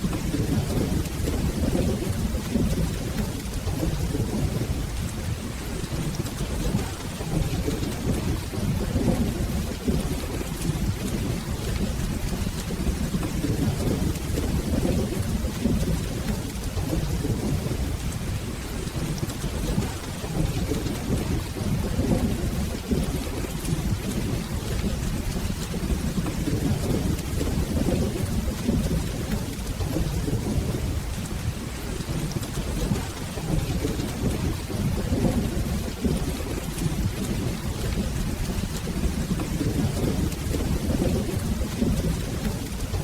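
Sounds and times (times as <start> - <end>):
rolling thunder: 0.0 - 43.0
steady rain: 0.0 - 43.0.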